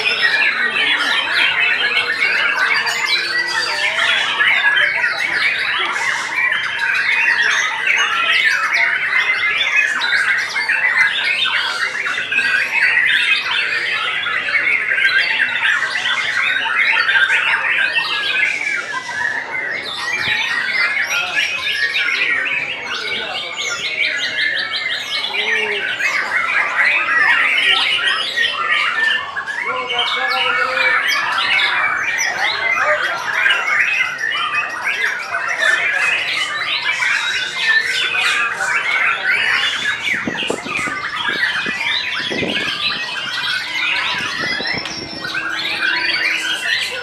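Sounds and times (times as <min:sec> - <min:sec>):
songbirds singing: 0:00.0 - 0:47.0.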